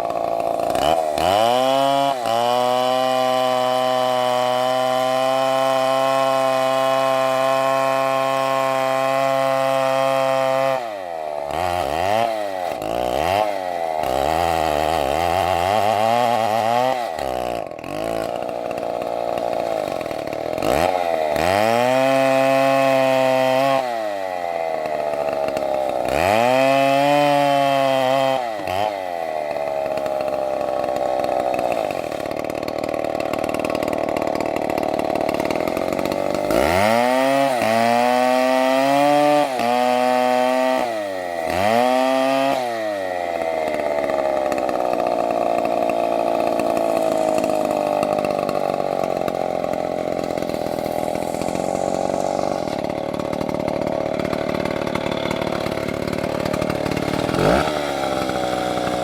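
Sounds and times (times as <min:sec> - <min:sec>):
chainsaw revving while cutting wood: 0:00.0 - 0:59.0.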